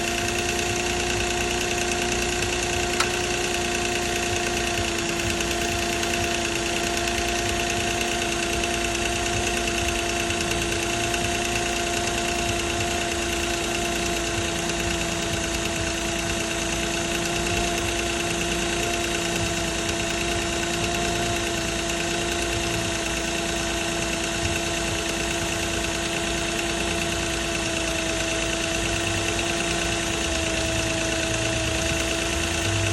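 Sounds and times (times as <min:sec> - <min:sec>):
car engine running: 0:00.0 - 0:32.9
timing chain rattle: 0:00.0 - 0:32.9.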